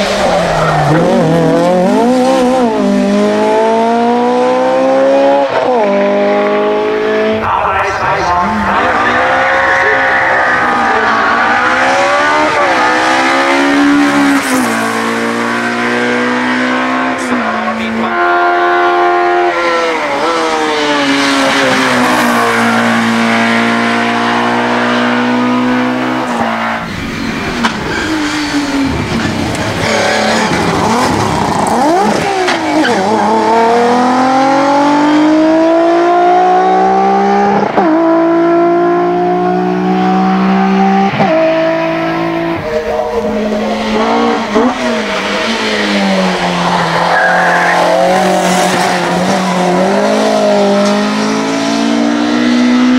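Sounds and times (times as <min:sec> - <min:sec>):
racing car engine revving hard: 0:00.0 - 0:52.9.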